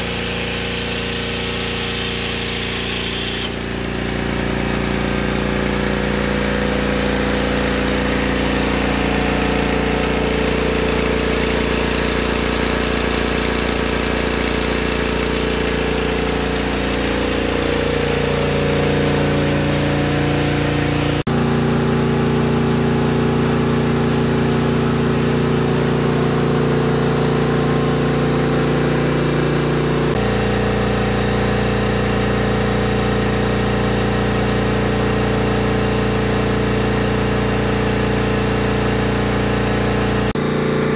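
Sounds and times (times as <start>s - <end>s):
air compressor humming: 0.0s - 40.9s.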